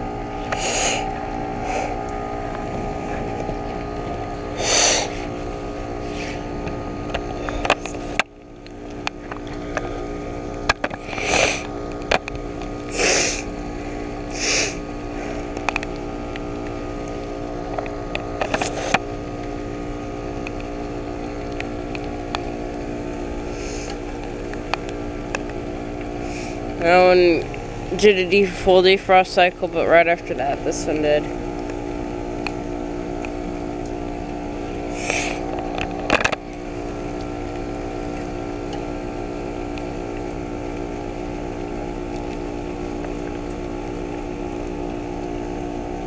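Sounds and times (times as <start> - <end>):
heat pump hum: 0.0 - 46.0.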